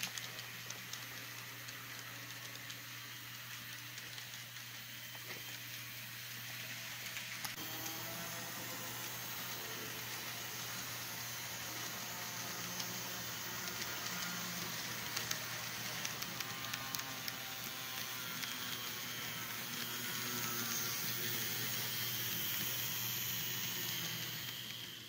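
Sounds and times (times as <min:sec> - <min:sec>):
model train motor whirring: 0:00.0 - 0:25.0.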